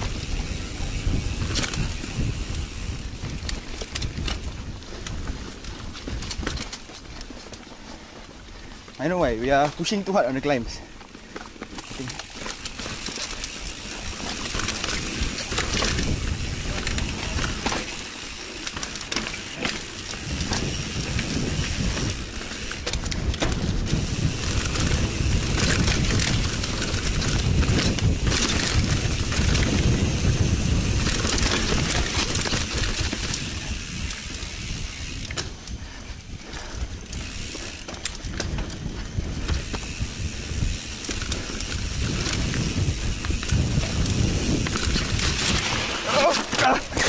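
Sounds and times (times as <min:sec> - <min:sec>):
wind rumbling on microphone: 0:00.0 - 0:07.4, 0:11.8 - 0:18.0, 0:19.0 - 0:47.0
bike rattling and clicking: 0:00.0 - 0:47.0
bike tyres crunching over dirt: 0:00.0 - 0:47.0.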